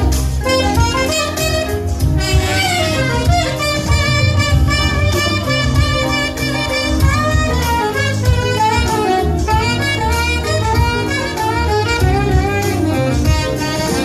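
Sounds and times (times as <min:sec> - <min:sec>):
bass and drums: 0:00.0 - 0:14.0
saxophone jazz melody: 0:00.0 - 0:14.0.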